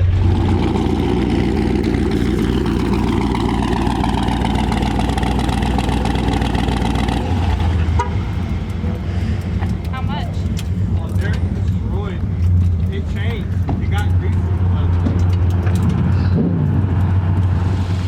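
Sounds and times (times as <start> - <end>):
pickup truck engine running: 0.0 - 18.0.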